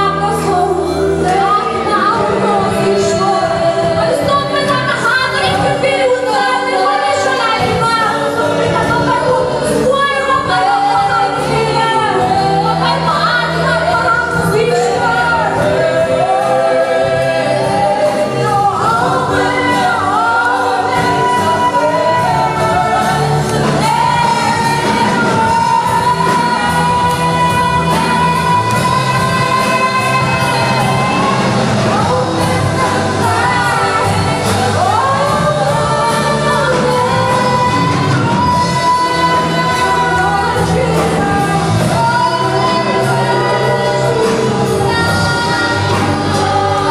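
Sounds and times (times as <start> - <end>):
acoustic guitar: 0.0 - 46.9
drum kit: 0.0 - 46.9
voices singing a slow song: 0.0 - 46.9.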